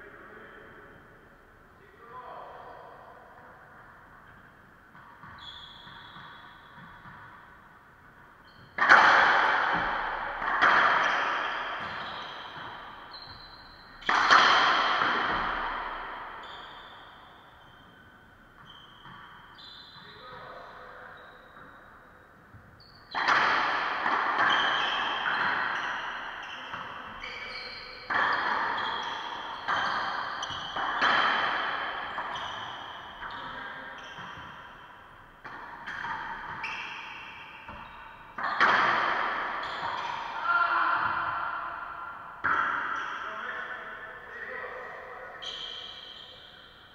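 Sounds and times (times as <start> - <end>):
racquetball hits echoing: 0.3 - 46.9.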